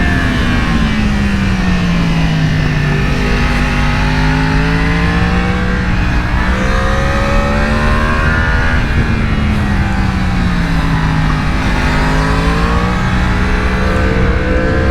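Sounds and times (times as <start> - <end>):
motorcycle engine pulling: 0.0 - 14.9.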